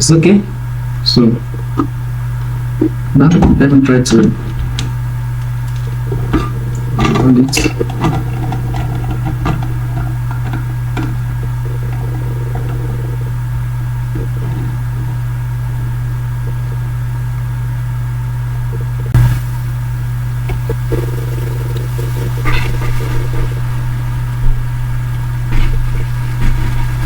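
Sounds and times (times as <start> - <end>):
low electronic hum: 0.0 - 27.0.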